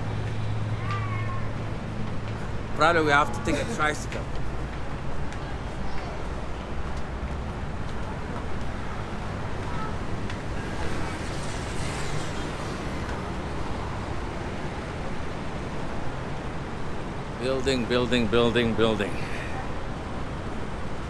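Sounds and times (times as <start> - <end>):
busy highway traffic: 0.0 - 21.0.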